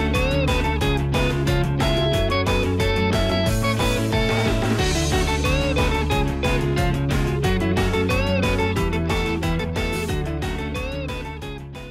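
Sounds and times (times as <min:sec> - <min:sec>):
guitar over a steady beat: 0:00.0 - 0:11.9.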